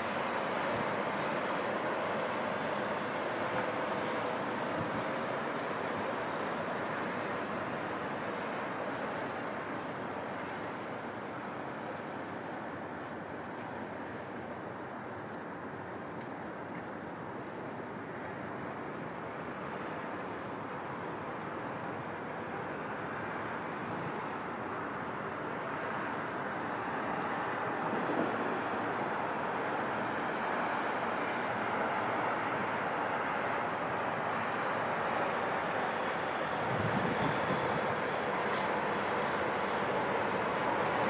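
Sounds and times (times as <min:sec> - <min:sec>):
distant city traffic: 0:00.0 - 0:41.0.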